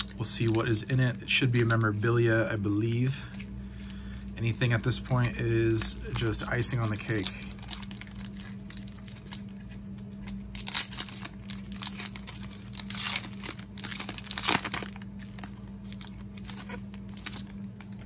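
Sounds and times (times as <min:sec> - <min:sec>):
foil wrapper tearing and crinkling: 0:00.0 - 0:18.0.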